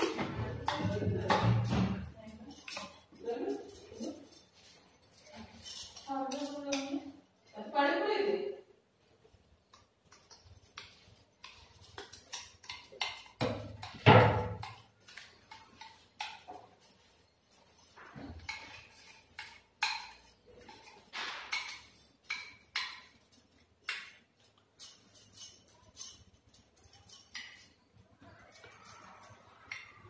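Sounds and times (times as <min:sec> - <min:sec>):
bangles jingling: 0:00.0 - 0:08.1, 0:08.7 - 0:30.0.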